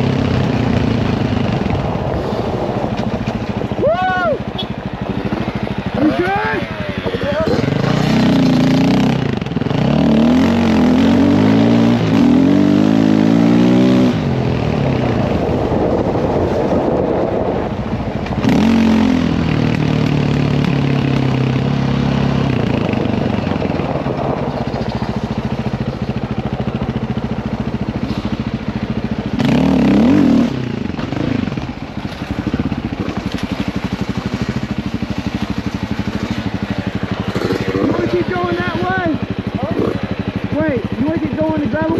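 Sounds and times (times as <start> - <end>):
dirt bike engine revving: 0.0 - 3.3, 4.3 - 17.0, 18.3 - 41.9.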